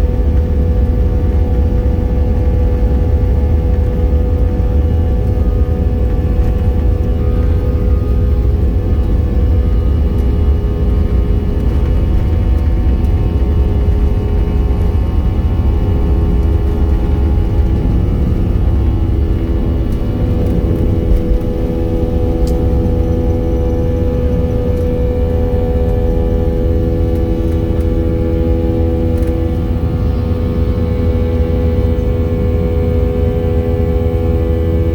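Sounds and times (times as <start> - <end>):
airplane engines deep rumble: 0.0 - 34.9
faint steady tones: 0.0 - 34.9.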